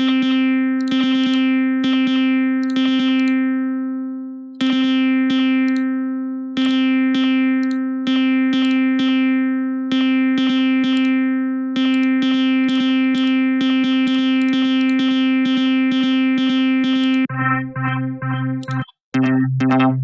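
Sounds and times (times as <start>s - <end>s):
synthesizer repeating one note: 0.0s - 3.8s, 6.6s - 20.0s.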